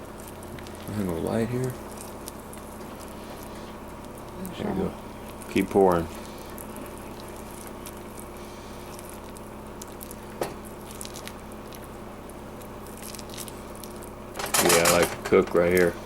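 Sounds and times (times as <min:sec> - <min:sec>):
sticky mixture pattering: 0:00.0 - 0:16.0.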